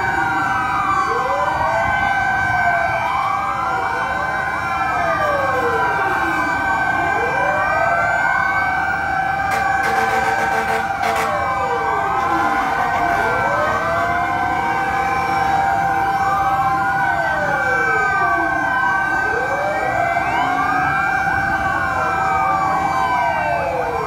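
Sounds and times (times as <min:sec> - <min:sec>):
fire truck sirens wailing: 0:00.0 - 0:24.0
steady held siren tone: 0:00.0 - 0:24.0.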